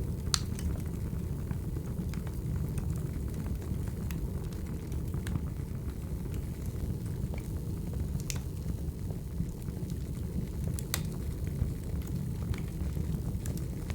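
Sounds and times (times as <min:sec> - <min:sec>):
wood fire crackling and popping: 0:00.0 - 0:13.9.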